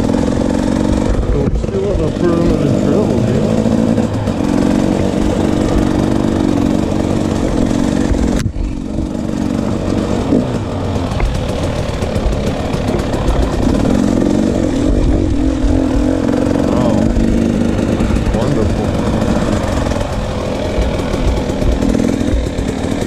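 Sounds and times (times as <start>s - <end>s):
two-stroke dirt bike engine: 0.0s - 23.0s.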